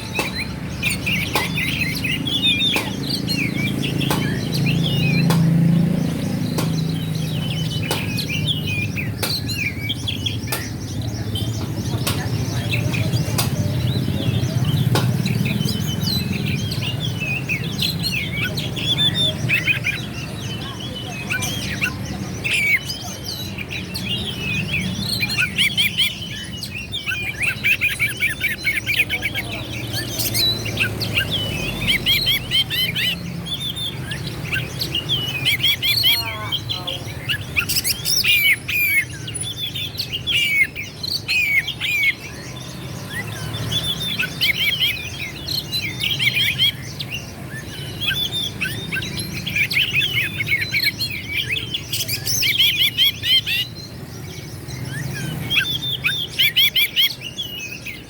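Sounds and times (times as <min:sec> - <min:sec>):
bird singing with chirps and trills: 0:00.0 - 0:58.0.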